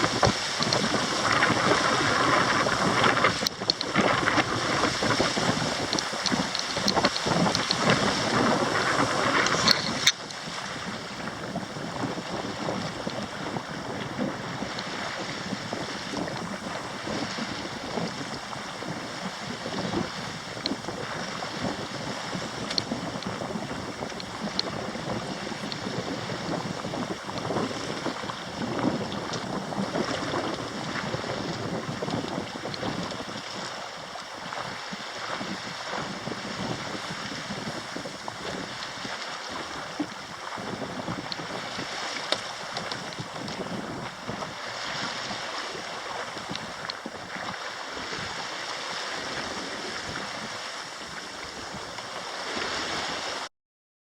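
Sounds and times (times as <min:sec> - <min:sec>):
water splashing along hull: 0:00.0 - 0:53.5
wind on microphone: 0:00.0 - 0:53.5.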